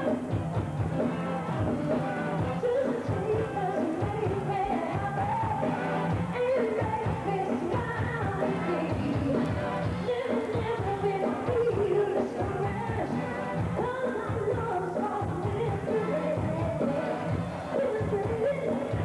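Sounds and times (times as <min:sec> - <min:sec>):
woman singing into microphone: 0:01.6 - 0:19.0.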